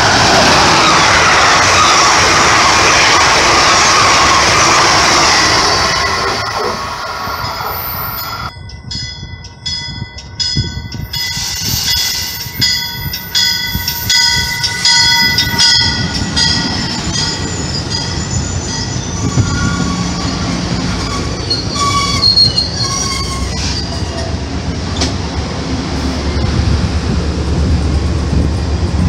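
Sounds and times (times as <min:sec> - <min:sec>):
train rushing past: 0:00.0 - 0:08.5, 0:10.6 - 0:29.0.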